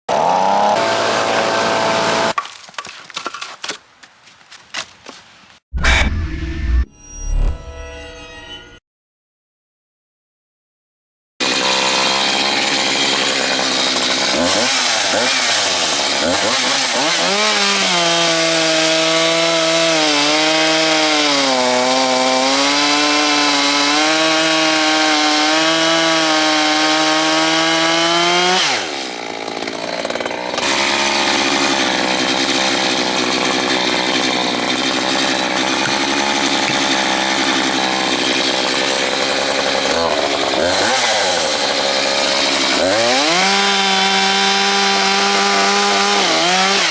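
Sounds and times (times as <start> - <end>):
chainsaw cutting log: 0.1 - 3.8, 11.4 - 46.9.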